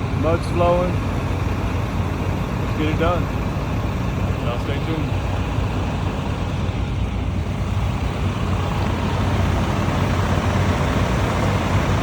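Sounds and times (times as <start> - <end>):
heavy truck engines running: 0.0 - 12.0.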